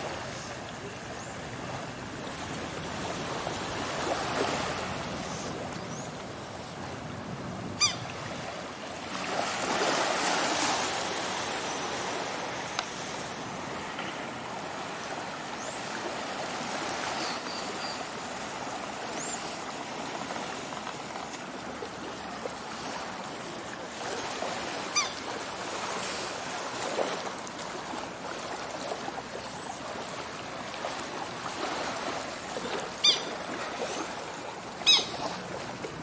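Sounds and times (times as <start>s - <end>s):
water lapping at shore: 0.0s - 36.0s.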